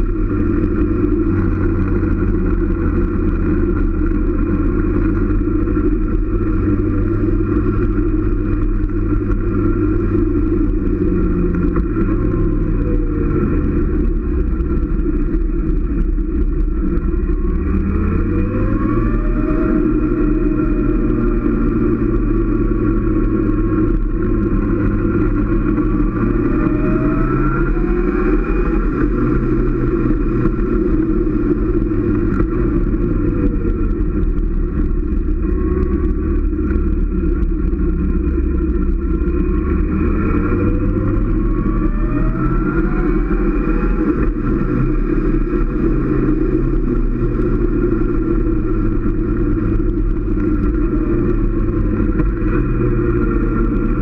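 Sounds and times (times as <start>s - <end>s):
low rushing noise: 0.0s - 54.0s
motorcycle engine revving: 0.0s - 54.0s.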